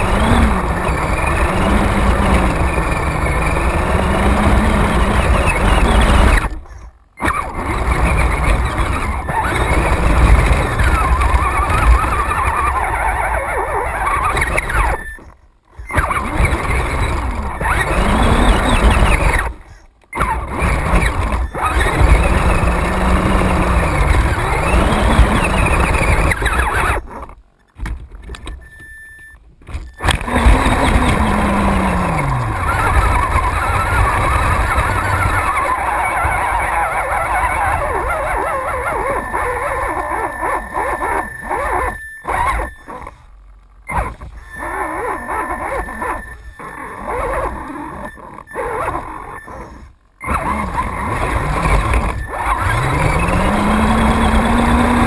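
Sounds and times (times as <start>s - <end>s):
motor and gear whine: 0.0s - 55.0s
rumble from bumps: 0.0s - 55.0s.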